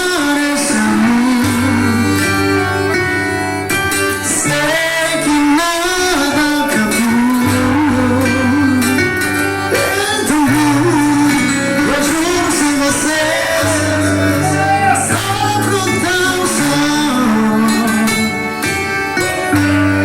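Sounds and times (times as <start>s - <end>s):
band playing: 0.0s - 20.0s
person singing: 0.0s - 20.0s.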